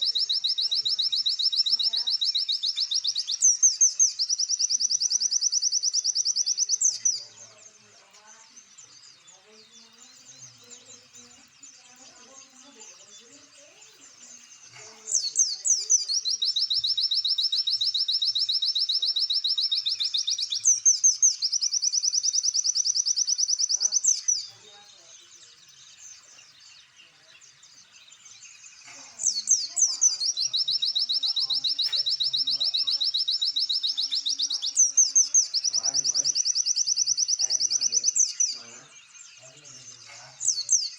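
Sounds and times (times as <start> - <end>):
songbird trilling: 0.0 - 40.9.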